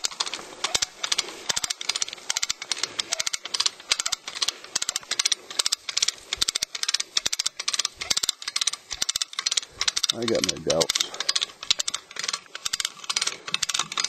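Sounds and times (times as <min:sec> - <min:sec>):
ratchet winch clicking: 0:00.0 - 0:14.0.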